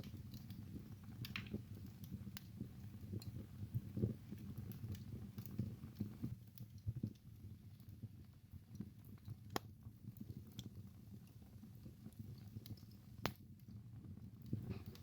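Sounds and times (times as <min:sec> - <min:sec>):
burning logs snapping and crackling: 0:00.0 - 0:15.0
soft rumble of flames: 0:00.0 - 0:15.0.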